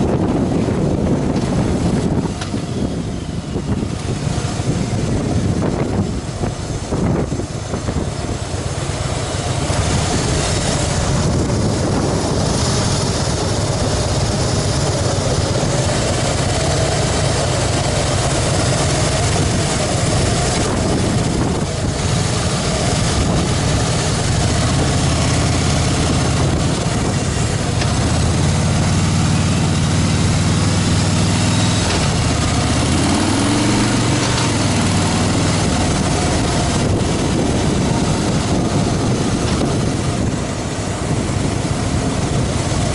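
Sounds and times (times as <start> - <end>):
motorcycle engine running: 0.0 - 42.9
rushing road noise: 0.0 - 42.9.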